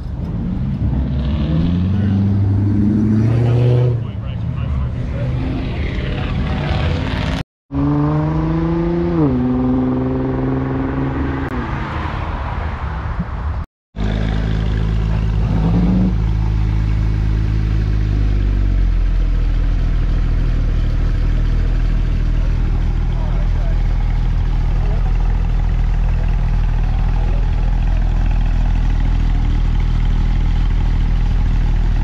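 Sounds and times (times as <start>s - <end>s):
car engines running: 0.0s - 32.0s.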